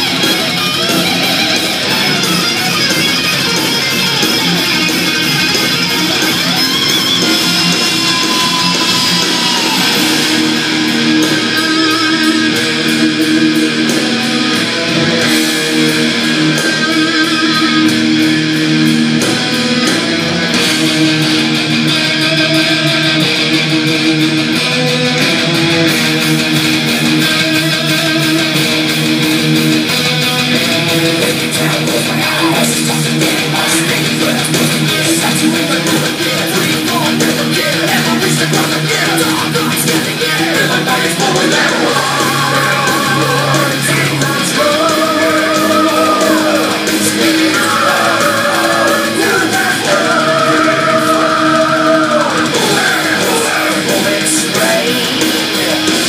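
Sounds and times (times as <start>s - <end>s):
heavy metal through loudspeakers: 0.0s - 56.0s.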